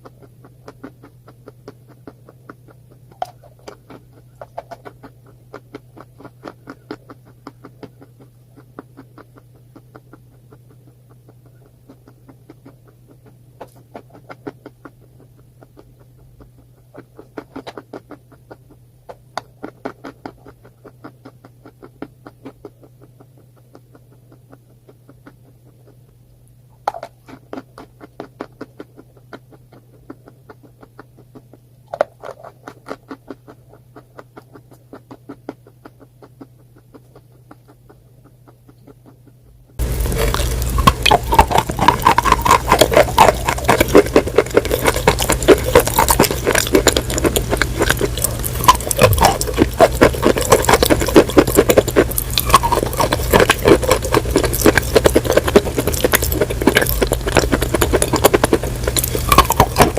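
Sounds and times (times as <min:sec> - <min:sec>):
crunchy food being chewed: 0:00.0 - 0:59.9
steady low hum: 0:00.0 - 0:59.9.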